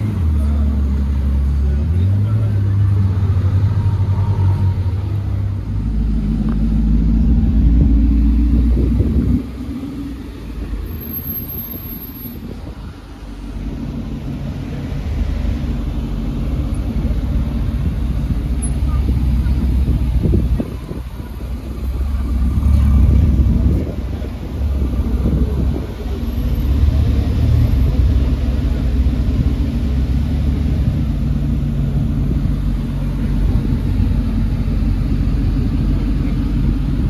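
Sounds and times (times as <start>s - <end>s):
car engines in traffic: 0.0s - 37.0s.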